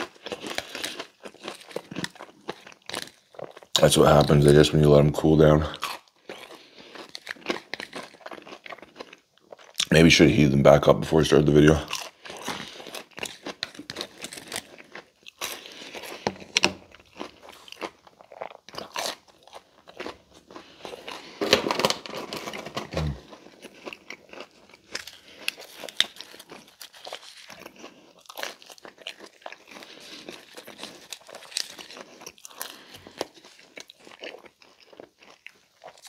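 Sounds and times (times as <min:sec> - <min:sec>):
person chewing and crunching: 0:00.0 - 0:36.0.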